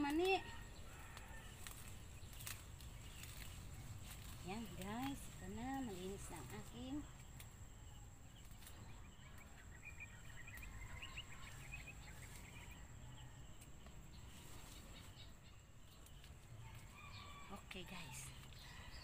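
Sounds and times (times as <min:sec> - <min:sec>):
bird chirping: 0:00.2 - 0:19.0.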